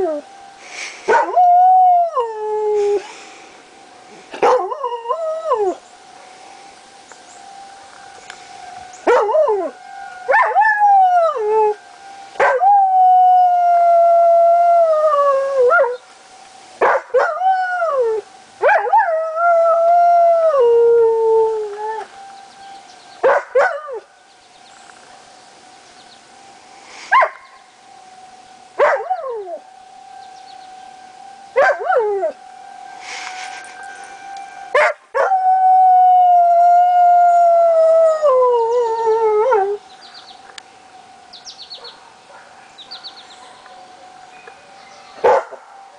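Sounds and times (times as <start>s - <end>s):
faint warning siren: 0.0s - 45.9s.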